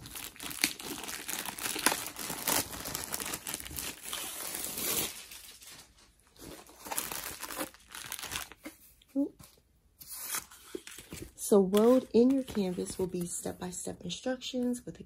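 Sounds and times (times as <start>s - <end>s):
crinkly packaging rustling: 0.0s - 13.6s.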